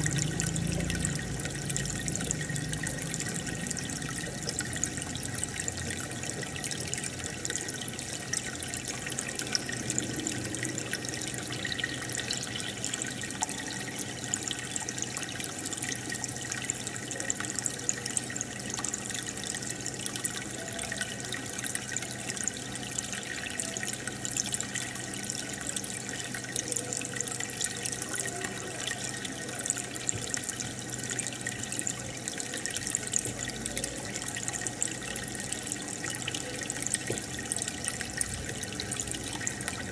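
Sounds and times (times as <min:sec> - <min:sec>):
aquarium bubbles popping: 0:00.0 - 0:39.9.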